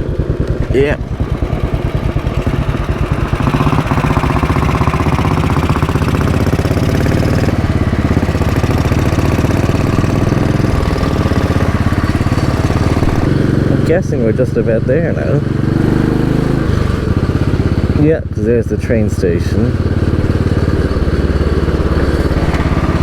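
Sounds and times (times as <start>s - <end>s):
motorcycle engine running at low revs: 0.0s - 23.0s.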